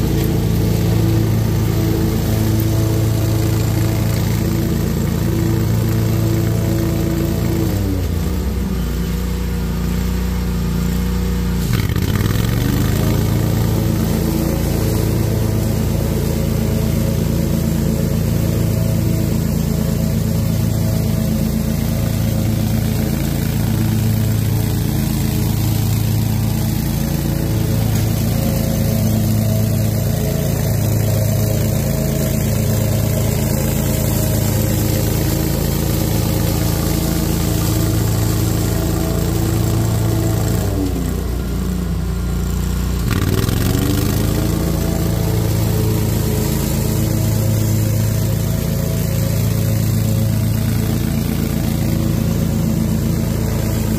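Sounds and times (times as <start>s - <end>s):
mower engine running: 0.0s - 53.9s.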